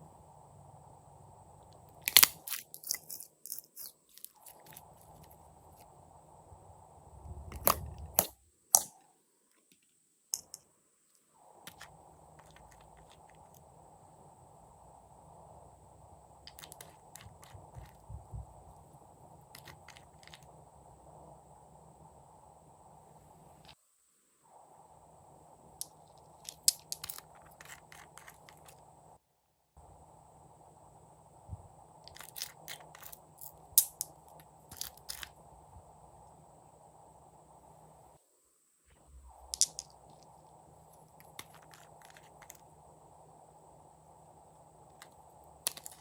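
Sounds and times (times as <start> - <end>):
faint steady hiss: 0.0 - 46.0.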